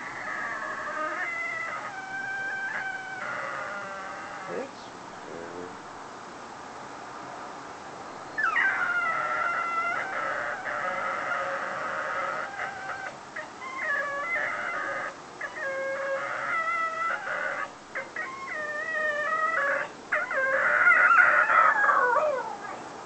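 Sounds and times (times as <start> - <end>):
dog howling and whining: 0.0 - 4.8, 8.3 - 23.0.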